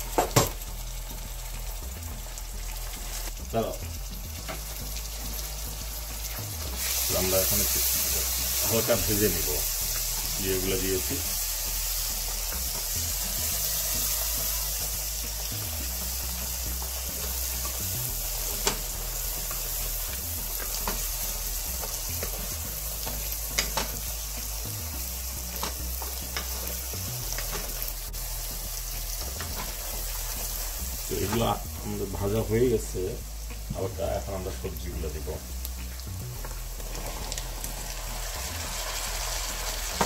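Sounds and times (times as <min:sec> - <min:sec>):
onions sizzling in hot oil: 0:00.0 - 0:40.0.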